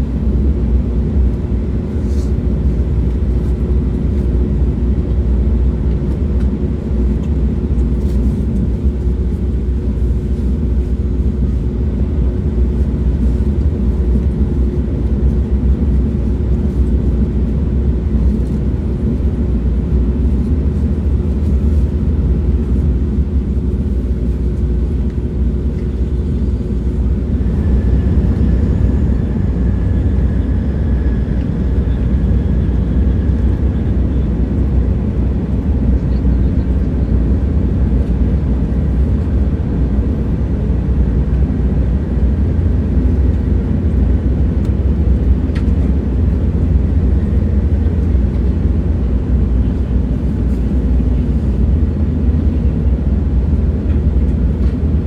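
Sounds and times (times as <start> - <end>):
passenger train rumbling: 0.0 - 55.0.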